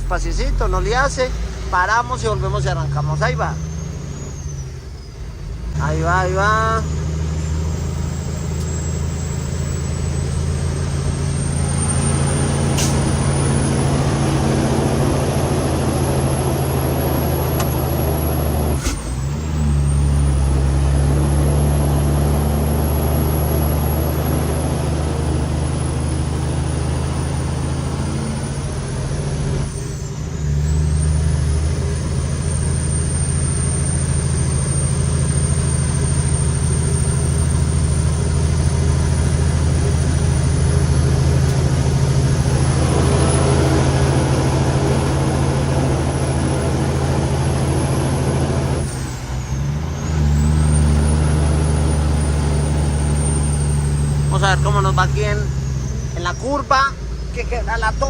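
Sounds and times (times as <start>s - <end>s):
high engine whine: 0.0s - 58.0s
truck diesel engine accelerating: 0.0s - 58.0s.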